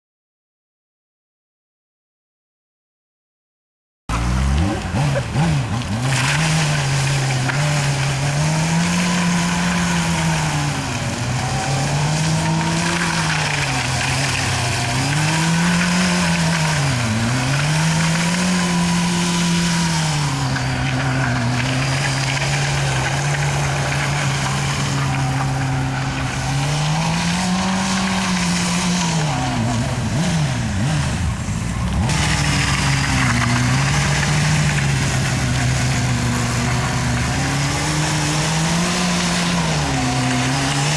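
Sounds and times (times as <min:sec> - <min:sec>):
motorcycle engine revving: 0:04.1 - 0:40.9
tyre squealing on pavement: 0:04.1 - 0:40.9.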